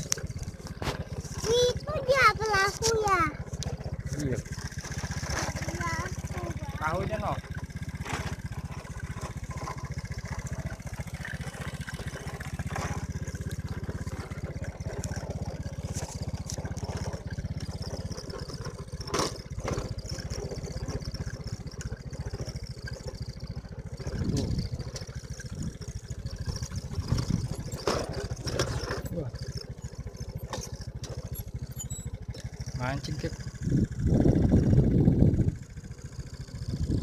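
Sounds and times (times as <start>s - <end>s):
motor scooter engine running: 0.0s - 37.0s.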